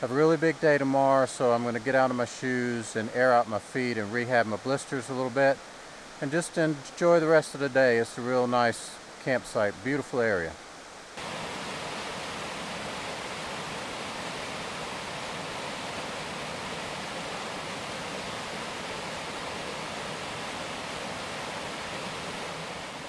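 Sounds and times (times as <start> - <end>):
creek rushing over rocks: 0.0 - 23.0.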